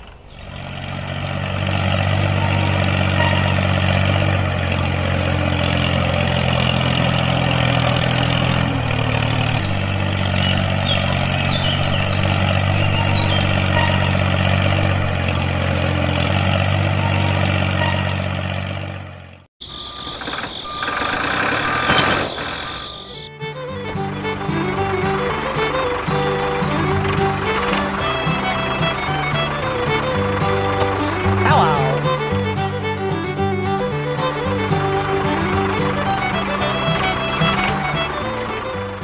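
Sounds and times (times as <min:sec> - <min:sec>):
tractor engine drone: 0:00.0 - 0:39.0.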